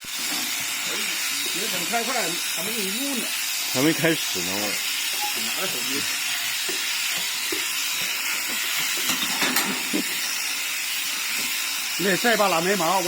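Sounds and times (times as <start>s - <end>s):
electric sheep shears hissing: 0.0s - 13.0s.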